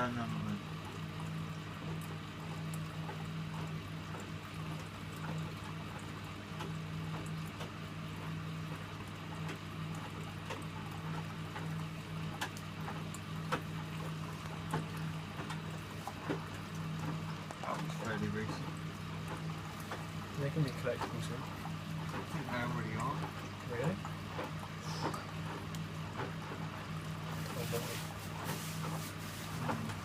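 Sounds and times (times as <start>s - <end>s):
washing machine low hum: 0.0s - 30.0s
water swishing in washing machine: 0.0s - 30.0s.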